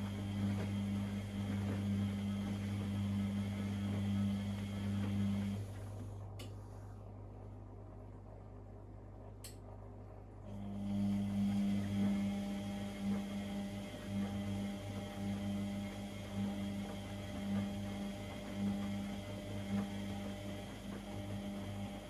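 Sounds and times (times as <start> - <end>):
washing machine electrical hum: 0.0 - 22.0.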